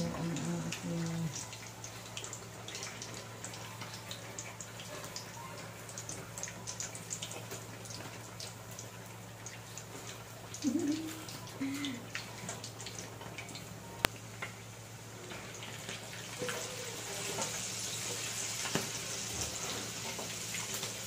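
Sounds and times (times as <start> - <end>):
hot oil sizzling and popping: 0.0 - 21.0.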